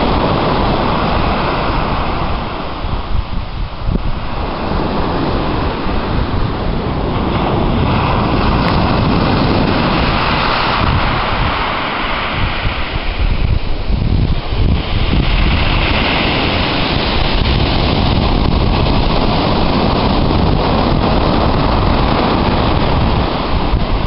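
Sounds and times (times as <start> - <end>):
waves washing over shingle: 0.0 - 24.0
wind buffeting microphone: 0.0 - 24.0.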